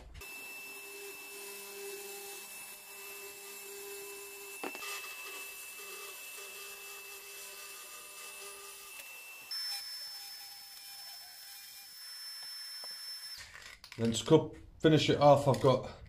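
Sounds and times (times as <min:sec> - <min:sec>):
track saw humming: 0:00.2 - 0:13.4.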